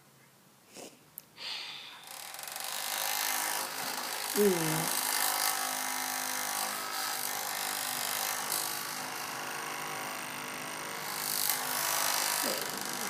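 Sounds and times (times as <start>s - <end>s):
small electric motor humming: 1.7s - 13.0s.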